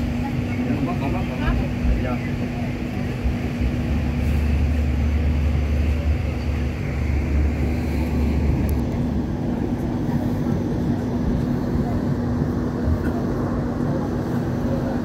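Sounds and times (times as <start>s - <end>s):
deep low rumble: 0.0s - 15.0s
steady hum: 0.0s - 15.0s
train wheels rumbling on rail: 0.0s - 15.0s.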